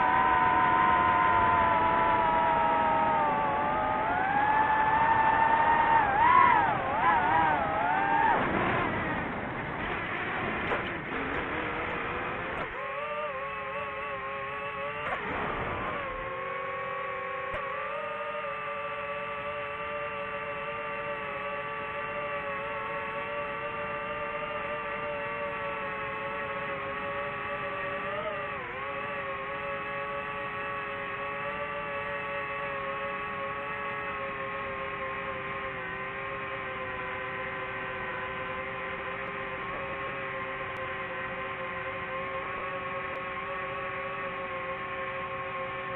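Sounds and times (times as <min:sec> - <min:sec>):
drone propellers whining: 0:00.0 - 0:45.9.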